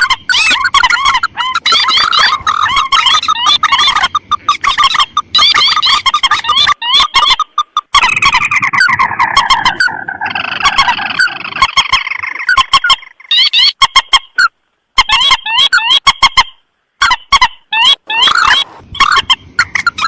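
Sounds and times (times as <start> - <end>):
rail and crake calls: 0.0 - 20.0.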